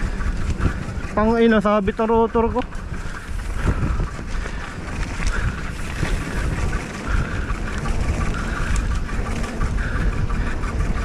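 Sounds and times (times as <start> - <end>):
bike knocks and rattles: 0.0 - 11.0
bike low rumble: 0.0 - 11.0
wind buffeting microphone: 0.0 - 11.0.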